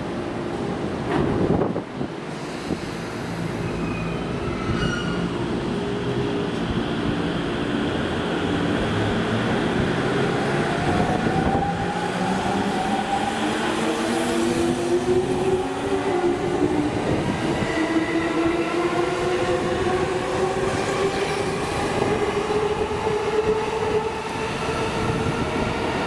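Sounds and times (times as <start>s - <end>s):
train wheels rumbling on rail: 0.6s - 26.0s.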